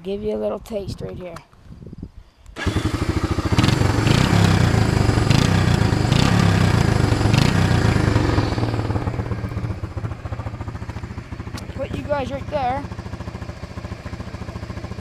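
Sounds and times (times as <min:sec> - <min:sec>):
atv engine revving: 0:02.6 - 0:15.0.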